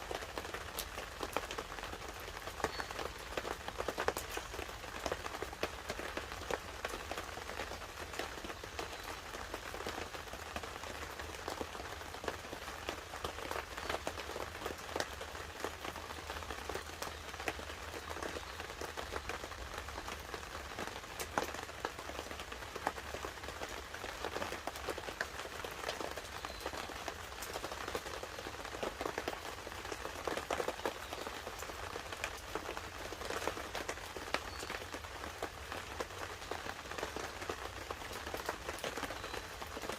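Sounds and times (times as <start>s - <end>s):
light rain pattering on a tarp: 0.0s - 39.9s.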